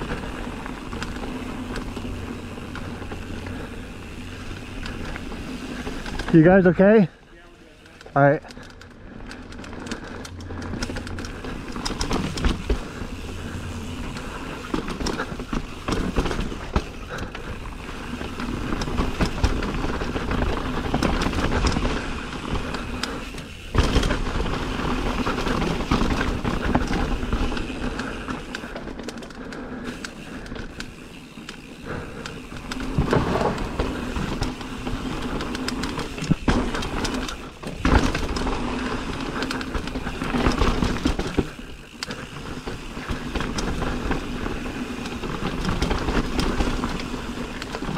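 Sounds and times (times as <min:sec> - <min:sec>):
bike rattling and knocking: 0:00.0 - 0:47.9
bike tyres rolling over rocks: 0:00.0 - 0:47.9.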